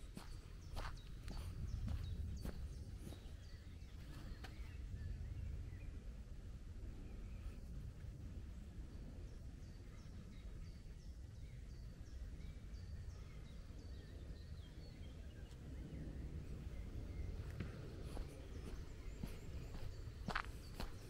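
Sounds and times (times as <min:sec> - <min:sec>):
low steady rumble: 0:00.0 - 0:21.0
songbird singing: 0:00.0 - 0:21.0.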